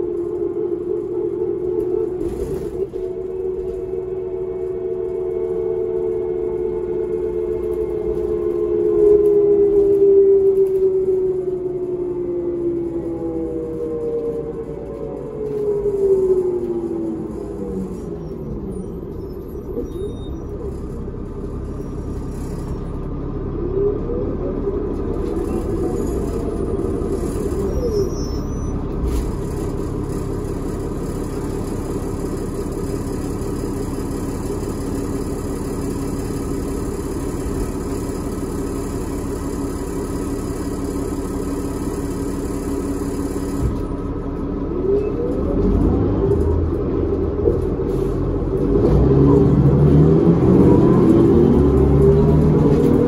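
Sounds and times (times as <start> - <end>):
bus diesel engine drone: 0.0 - 53.0.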